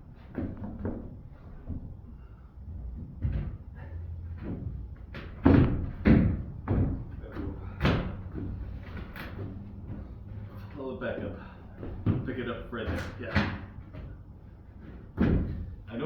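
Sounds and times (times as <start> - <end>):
wooden knocks and thuds: 0.2 - 2.1, 2.7 - 15.9.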